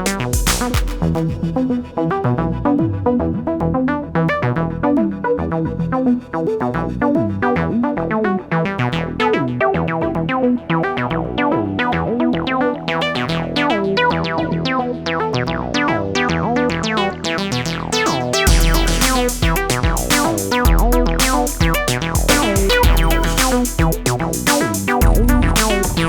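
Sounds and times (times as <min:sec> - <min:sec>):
electronic synthesizer music: 0:00.0 - 0:04.4, 0:07.8 - 0:26.0.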